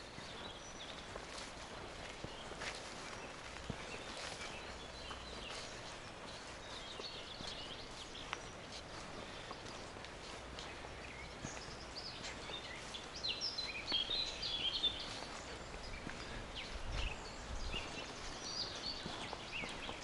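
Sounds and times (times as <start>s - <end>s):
songbirds chirping and singing: 0.0s - 20.0s.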